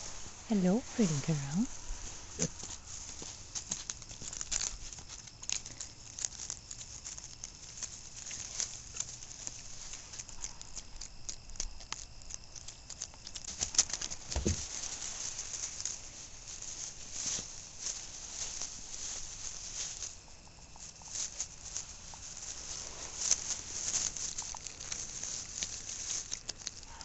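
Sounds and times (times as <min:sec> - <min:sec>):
grass and straw rustling: 0:00.0 - 0:27.0.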